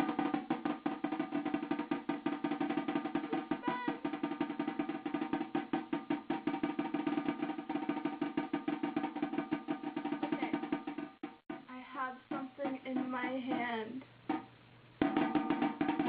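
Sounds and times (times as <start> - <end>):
drum roll: 0.0 - 16.0.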